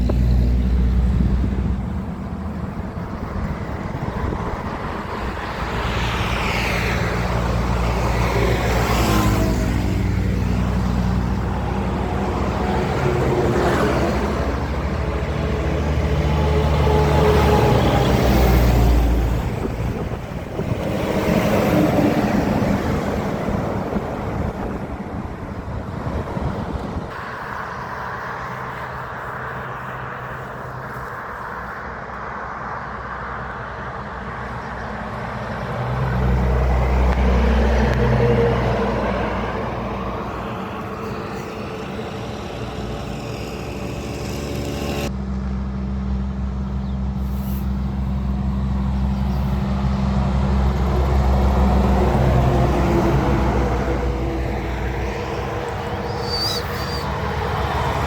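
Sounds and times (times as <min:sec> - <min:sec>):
heavy trucks passing: 0:00.0 - 0:58.0.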